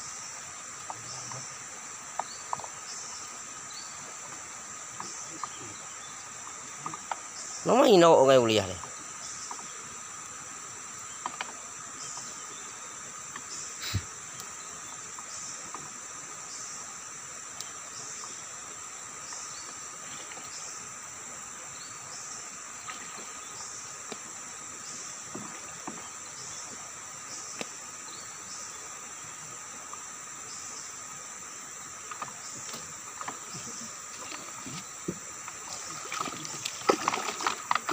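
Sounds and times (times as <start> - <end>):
insect chorus droning: 0.0 - 37.9
pulsing insect call: 0.0 - 37.9.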